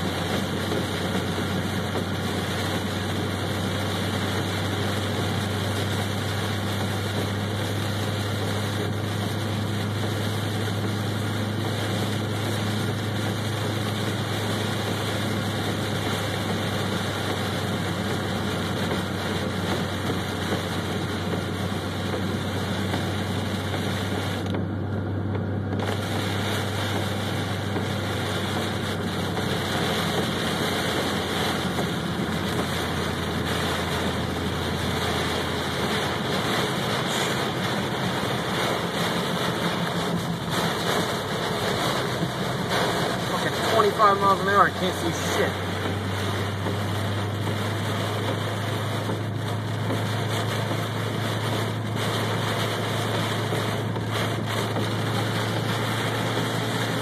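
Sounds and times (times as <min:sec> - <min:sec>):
heavy rain and tyre spray: 0:00.0 - 0:57.0
low car engine hum: 0:00.0 - 0:57.0.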